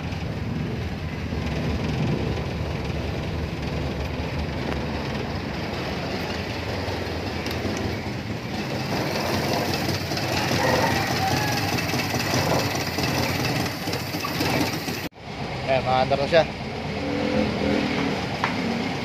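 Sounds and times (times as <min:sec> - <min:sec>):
engine chugging: 0:00.0 - 0:16.8.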